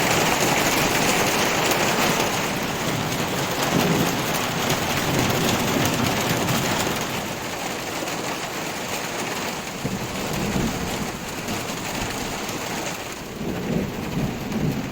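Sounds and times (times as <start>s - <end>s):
heavy rain falling: 0.0s - 14.9s
thunder rumbling: 0.0s - 14.9s.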